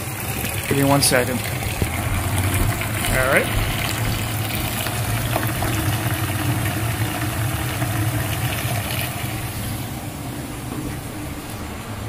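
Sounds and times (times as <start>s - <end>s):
steam boiler humming: 0.0s - 12.0s.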